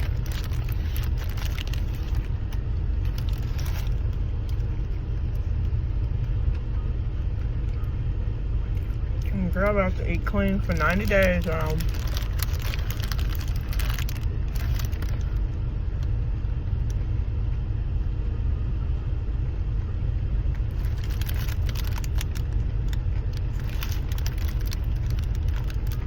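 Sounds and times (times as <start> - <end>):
car rumble from inside cabin: 0.0 - 26.0.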